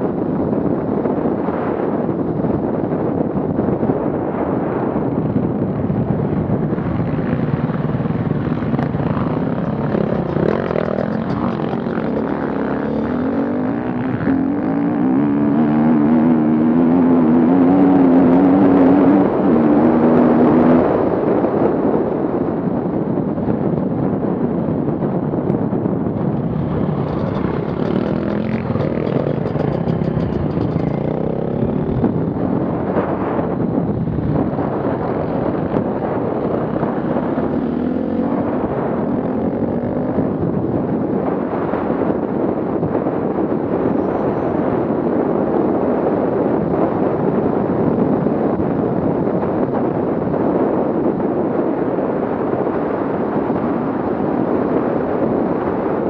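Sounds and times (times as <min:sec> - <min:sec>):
off-road vehicle engines: 0:00.0 - 0:56.0.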